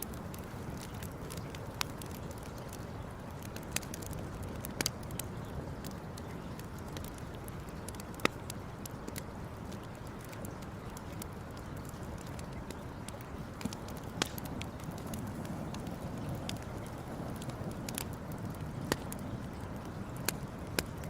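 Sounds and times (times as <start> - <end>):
burning wood crackling and popping: 0.0 - 21.0
campfire low rush: 0.0 - 21.0.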